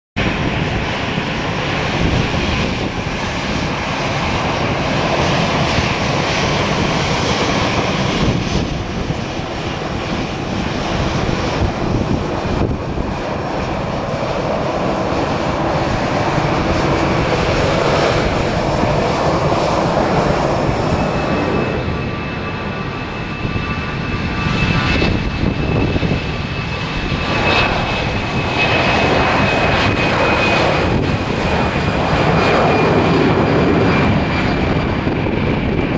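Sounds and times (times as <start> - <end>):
jet engines rushing: 0.2 - 35.9.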